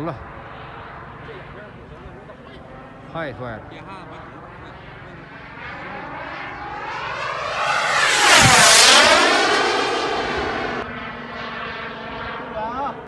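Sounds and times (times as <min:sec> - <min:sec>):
model jet passing: 0:00.0 - 0:13.0.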